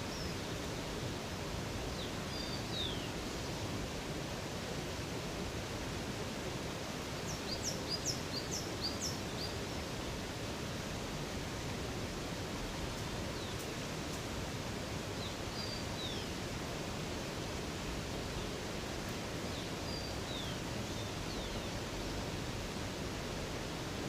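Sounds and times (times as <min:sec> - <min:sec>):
flowing water: 0:00.0 - 0:24.0.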